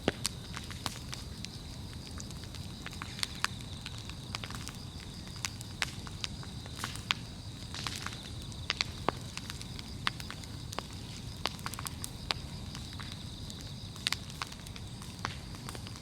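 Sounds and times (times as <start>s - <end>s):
bonfire crackling: 0.0s - 16.0s
firewood popping: 0.0s - 16.0s
low rumble of flames: 0.0s - 16.0s.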